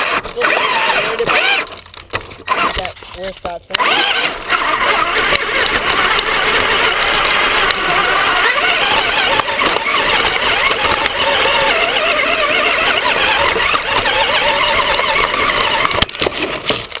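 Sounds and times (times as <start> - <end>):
rc car electric motor whining: 0.0 - 3.0, 3.7 - 16.2
tyre and ground noise: 0.0 - 17.0.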